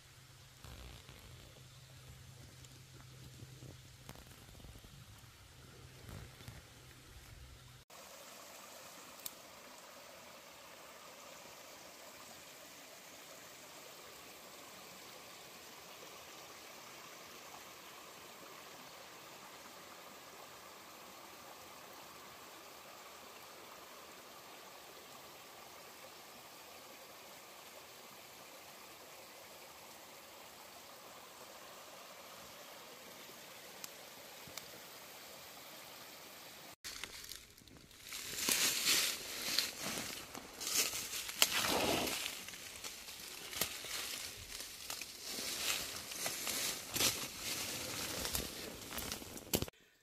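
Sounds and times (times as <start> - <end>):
stream running over rocks: 0.0 - 49.8.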